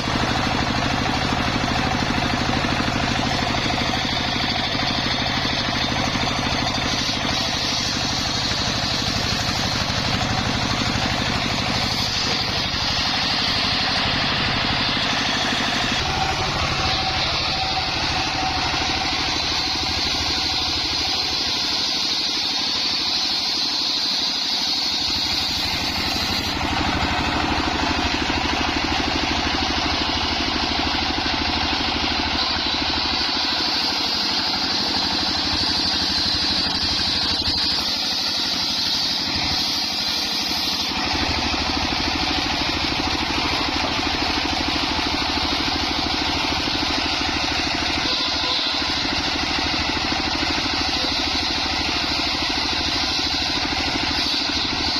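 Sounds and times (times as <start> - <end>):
circular saw cutting wood: 0.0 - 54.9.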